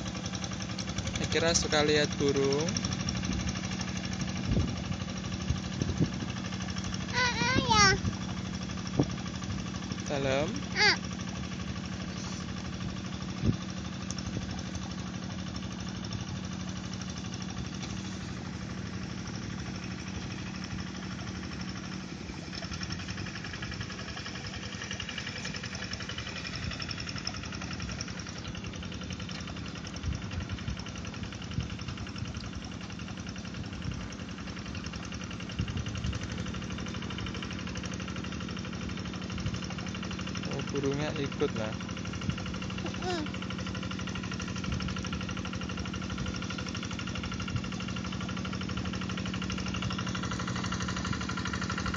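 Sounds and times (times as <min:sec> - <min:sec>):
hand tractor diesel engine: 0:00.0 - 0:51.9.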